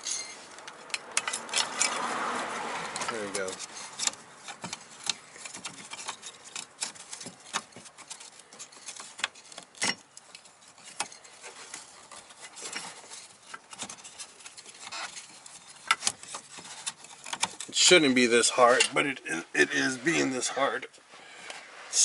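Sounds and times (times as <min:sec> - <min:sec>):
hands clicking and scraping parts: 0:00.0 - 0:19.1.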